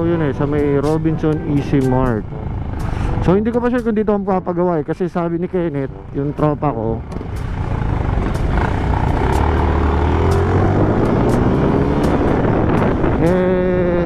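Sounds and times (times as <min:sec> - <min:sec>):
motorcycle engine running: 0:00.0 - 0:14.0
road and wind noise: 0:00.0 - 0:14.0.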